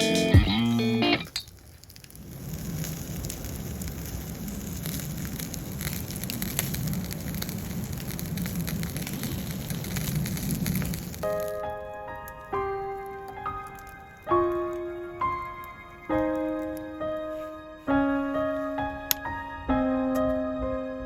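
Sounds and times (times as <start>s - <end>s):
campfire crackling: 0.0s - 20.3s.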